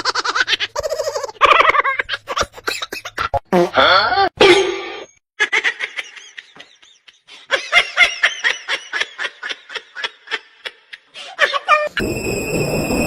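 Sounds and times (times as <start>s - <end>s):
person laughing: 0.6s - 4.6s, 5.4s - 12.0s.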